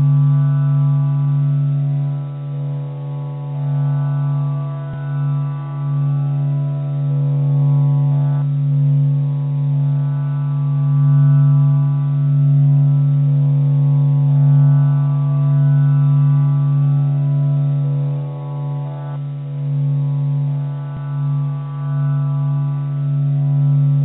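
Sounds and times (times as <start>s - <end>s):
low meditation drone: 0.0s - 24.0s.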